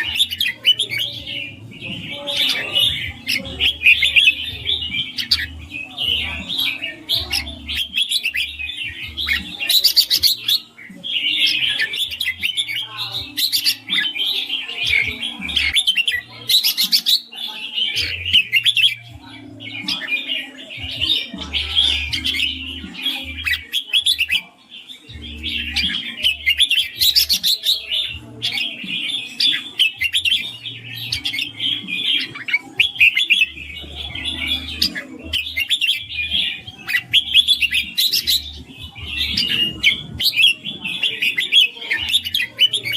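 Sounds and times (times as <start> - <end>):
bulbul chirping song: 0.0 - 42.9.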